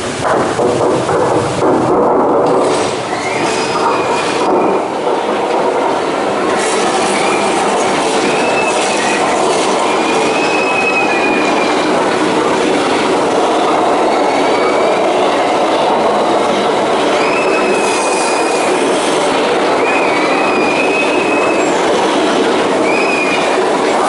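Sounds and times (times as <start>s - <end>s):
tram rolling rumble: 0.0s - 24.0s.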